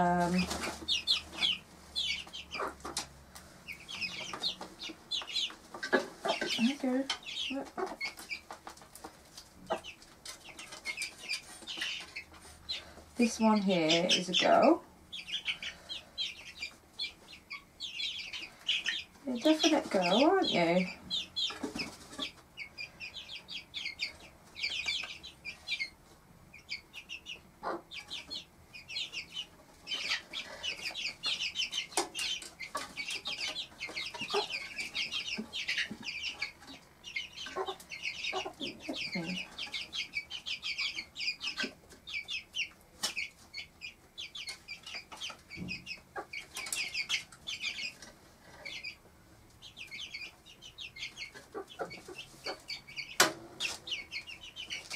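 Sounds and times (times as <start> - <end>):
chicks peeping: 0.0 - 54.9
hen clucking: 0.0 - 54.9.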